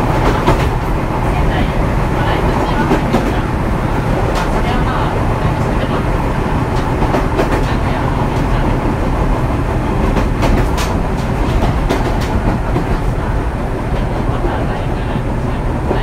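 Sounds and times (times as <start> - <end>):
train wheels rumbling on rail: 0.0 - 16.0
wheels clacking over rail joints: 0.0 - 16.0.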